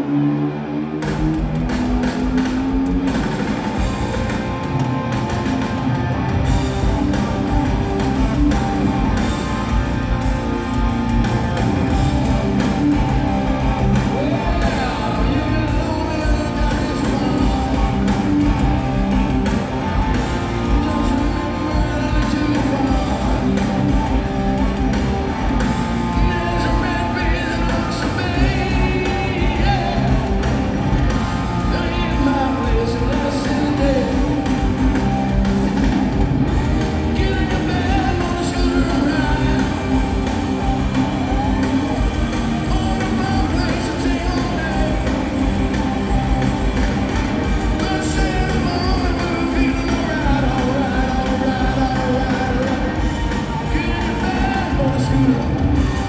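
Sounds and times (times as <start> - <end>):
rock band with electric guitar: 0.0 - 56.0
male lead singer: 3.8 - 56.0.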